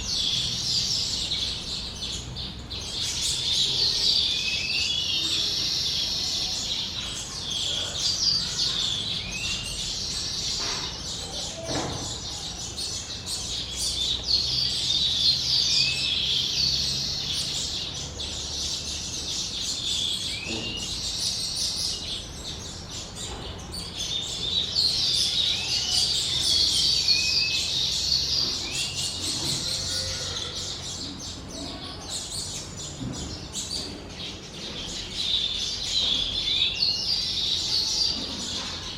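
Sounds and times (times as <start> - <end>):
weaver birds chattering: 0.0 - 38.9.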